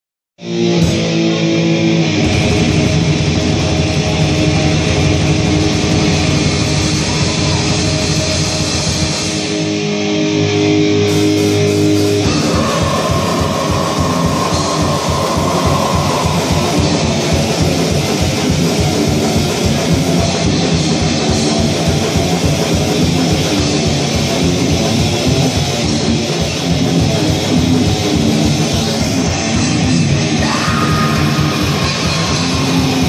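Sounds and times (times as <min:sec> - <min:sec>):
thrash metal band playing: 0:00.4 - 0:33.0.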